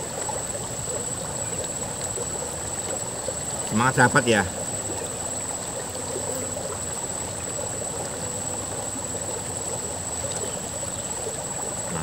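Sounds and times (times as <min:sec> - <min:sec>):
river flowing over gravel: 0:01.7 - 0:12.0.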